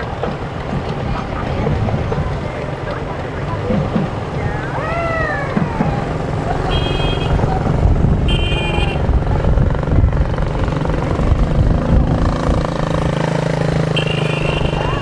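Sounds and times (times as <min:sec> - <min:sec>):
motorcycles puttering past: 0:00.0 - 0:15.0.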